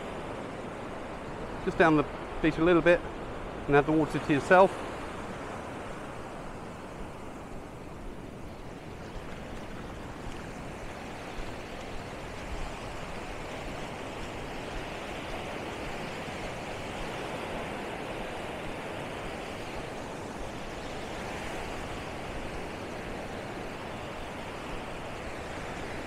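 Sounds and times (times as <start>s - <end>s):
small waves breaking on beach: 0.0s - 26.0s.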